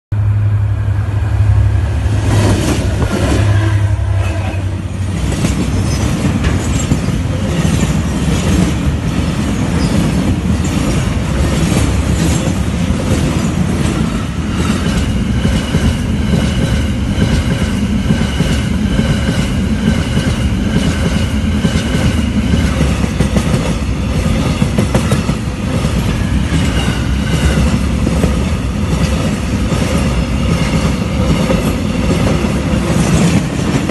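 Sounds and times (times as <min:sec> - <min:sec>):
train wheels clattering: 0:05.0 - 0:33.9.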